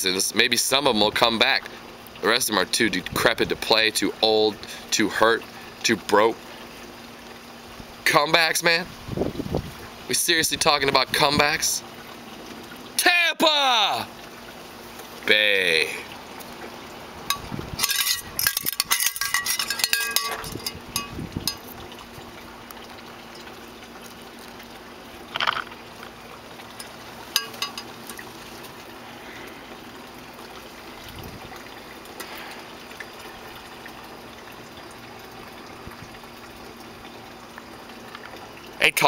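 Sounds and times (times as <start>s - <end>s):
running water: 0.0s - 39.0s.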